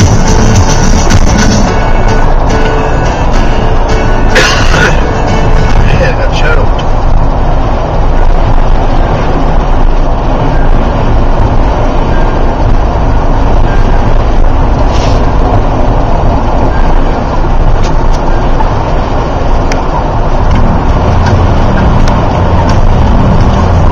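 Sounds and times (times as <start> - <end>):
vehicle rumble on highway: 0.0 - 23.9.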